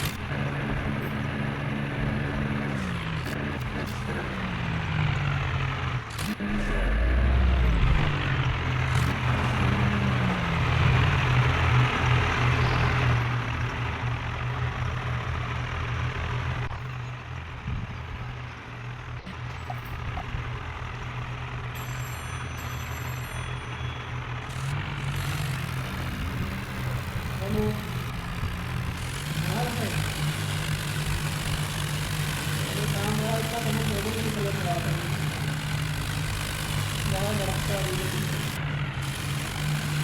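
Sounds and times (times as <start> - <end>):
heavy diesel engines under load: 0.0 - 40.0.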